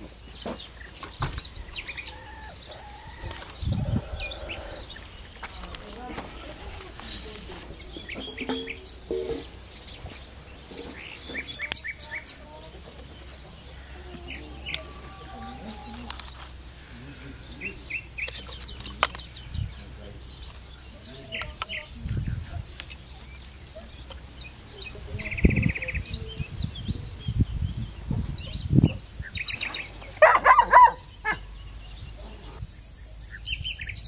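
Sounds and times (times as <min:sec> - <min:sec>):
high-pitched insect trill: 0:00.0 - 0:34.0.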